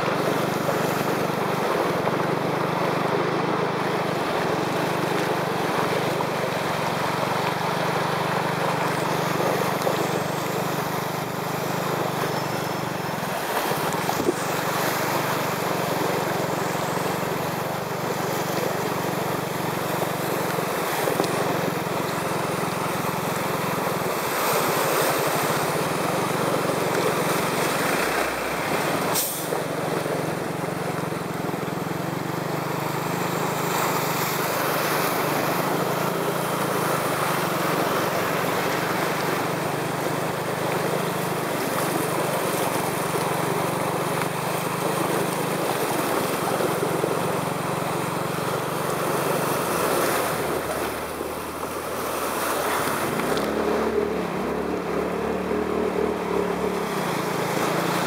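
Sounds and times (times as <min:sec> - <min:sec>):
car engine hum: 0:00.0 - 0:58.0
tyres splashing through water: 0:00.0 - 0:58.0.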